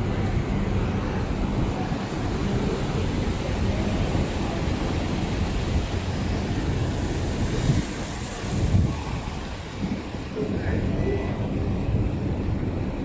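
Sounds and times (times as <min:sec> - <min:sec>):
distant city traffic: 0:00.0 - 0:13.0
wind on microphone: 0:00.0 - 0:13.0.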